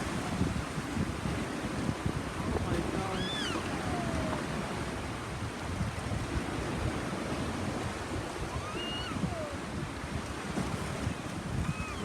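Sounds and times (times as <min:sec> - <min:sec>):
sea water rushing around boat: 0:00.0 - 0:12.0
wind buffeting microphone: 0:00.0 - 0:12.0.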